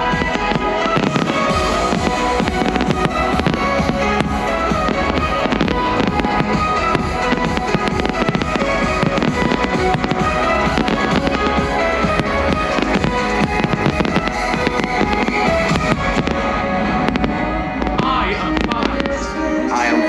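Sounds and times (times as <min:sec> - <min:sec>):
fireworks banging and crackling: 0:00.0 - 0:20.0
loud music: 0:00.0 - 0:20.0.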